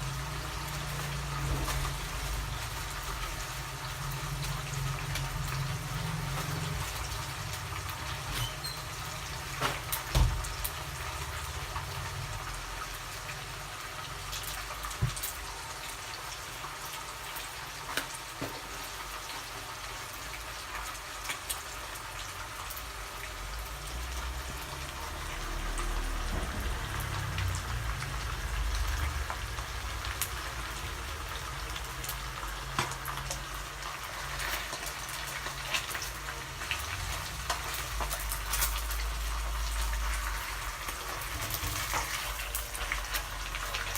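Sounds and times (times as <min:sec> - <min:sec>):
fish frying in hot oil: 0:00.0 - 0:43.9.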